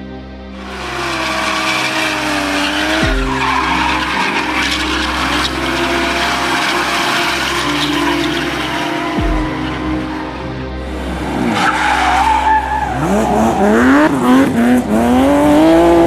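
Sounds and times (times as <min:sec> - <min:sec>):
car engine revving: 0:00.5 - 0:16.0
tyres squealing: 0:00.7 - 0:15.3.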